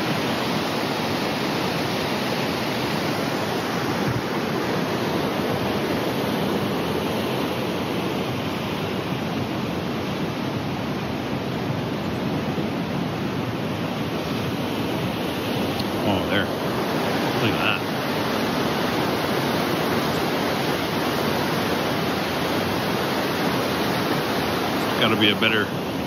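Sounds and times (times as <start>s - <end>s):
waterfall and river rapids rushing: 0.0s - 26.0s.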